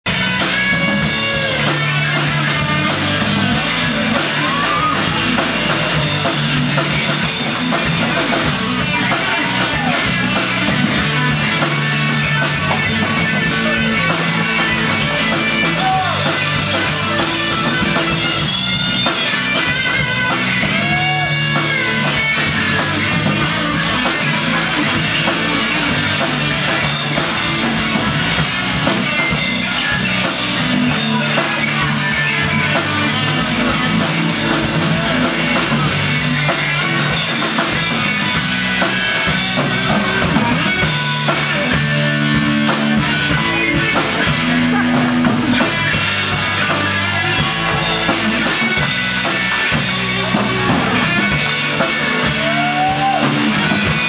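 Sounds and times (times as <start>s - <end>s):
country band playing: 0.1s - 54.0s.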